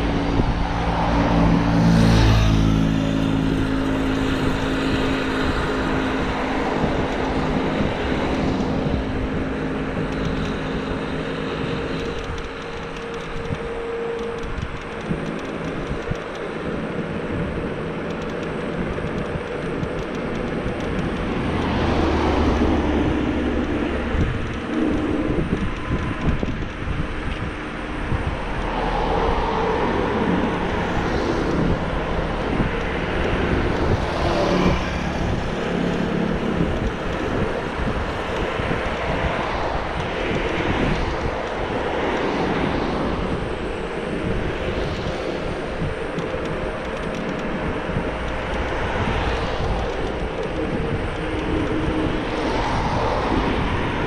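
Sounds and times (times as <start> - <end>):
tyres rumbling on asphalt: 0.0 - 54.0
wind rushing over microphone: 0.0 - 54.0.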